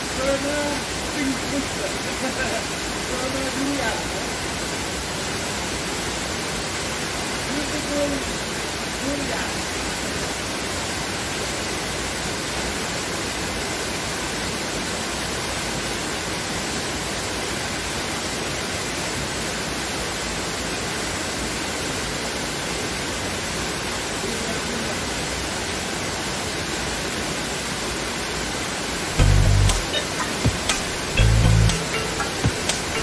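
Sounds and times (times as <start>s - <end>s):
waterfall rushing: 0.0s - 18.6s, 21.4s - 33.0s.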